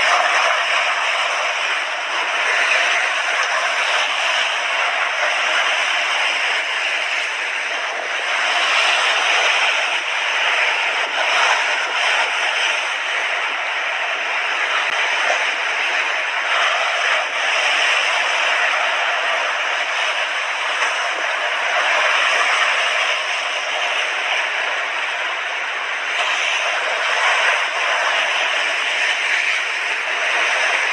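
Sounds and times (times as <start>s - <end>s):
sea waves breaking on beach: 0.0s - 30.9s.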